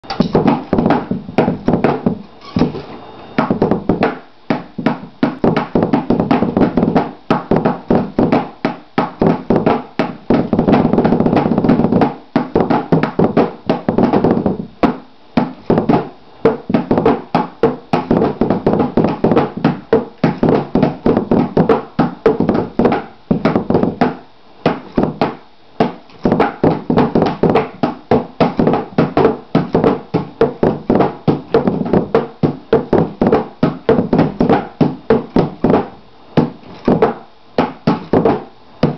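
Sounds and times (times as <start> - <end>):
drum pedal beaters striking box: 0.0 - 38.9.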